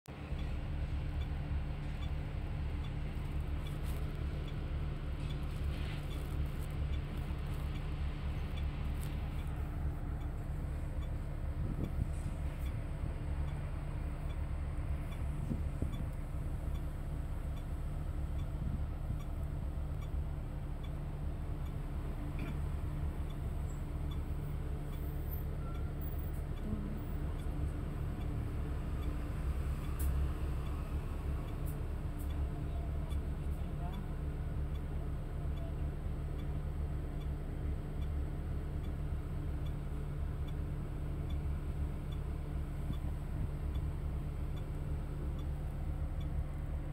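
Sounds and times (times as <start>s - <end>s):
bus engine humming: 0.1s - 46.9s
faint regular ticks: 0.3s - 46.9s.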